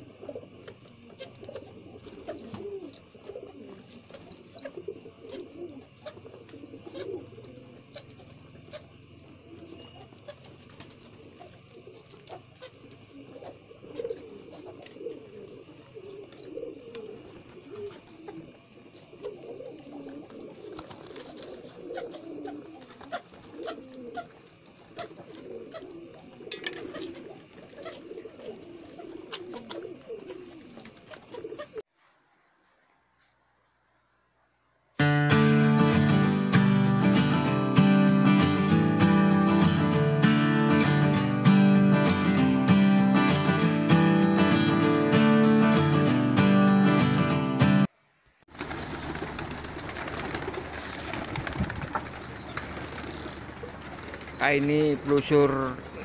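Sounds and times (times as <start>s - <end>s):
pigeons cooing: 0.0s - 31.9s, 35.2s - 47.9s, 48.6s - 56.0s.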